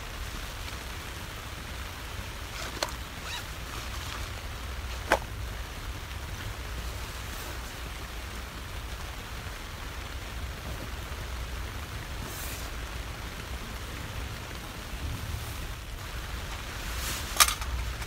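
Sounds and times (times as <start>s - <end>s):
rain on a tent: 0.0s - 18.0s.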